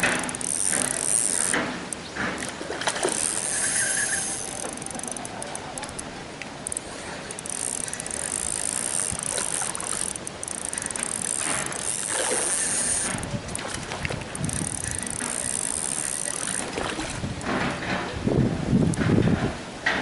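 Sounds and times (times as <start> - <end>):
fishing reel whirring: 0.0 - 17.6.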